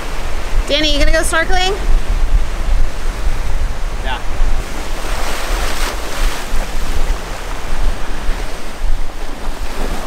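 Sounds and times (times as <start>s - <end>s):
surf washing over rocks: 0.0s - 10.0s
wind rumble on microphone: 0.0s - 10.0s.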